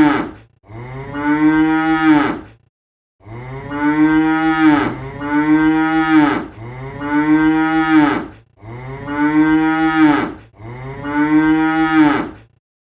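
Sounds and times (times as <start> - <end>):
cattle mooing: 0.0 - 2.5, 3.2 - 12.5.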